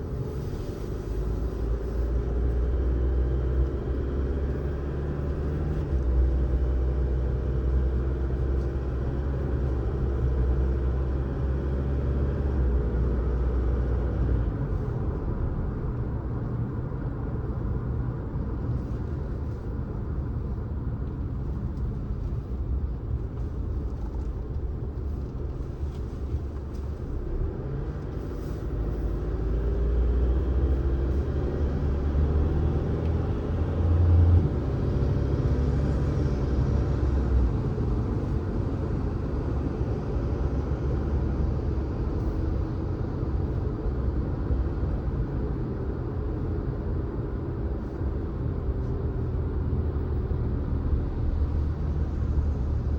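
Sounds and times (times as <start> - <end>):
car engine and tyre noise: 0.0 - 52.9.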